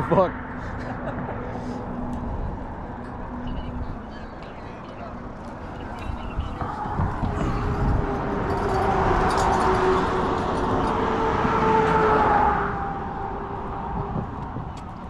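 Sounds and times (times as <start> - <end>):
engine passing by: 0.0 - 15.0.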